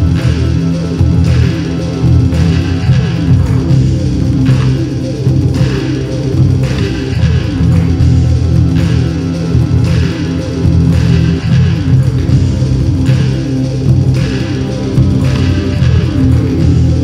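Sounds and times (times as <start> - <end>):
guitar and bass music: 0.0 - 17.0.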